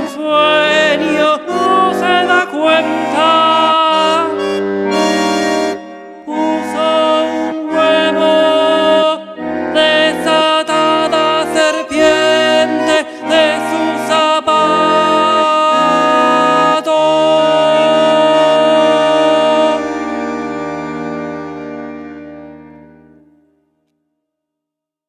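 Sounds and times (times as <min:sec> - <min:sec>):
bandoneon playing chords: 0:00.0 - 0:23.5.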